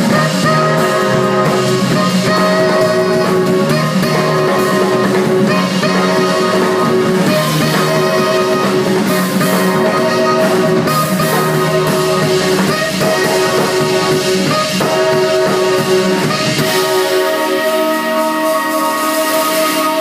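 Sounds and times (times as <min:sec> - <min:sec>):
jazz-rock band playing: 0:00.0 - 0:20.0
saxophone held notes: 0:00.0 - 0:20.0.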